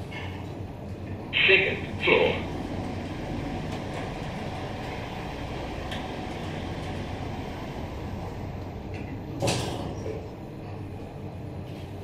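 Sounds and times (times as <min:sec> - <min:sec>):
lift car hum and hiss: 0:00.0 - 0:12.0.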